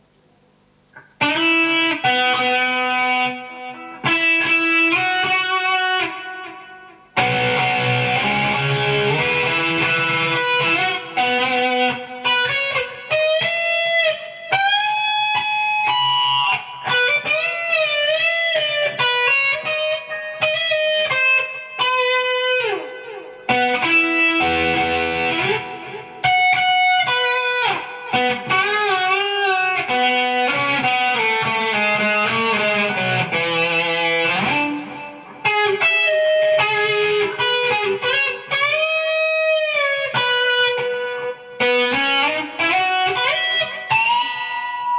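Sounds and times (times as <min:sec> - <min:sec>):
electric guitar lead melody: 0:00.9 - 0:44.9.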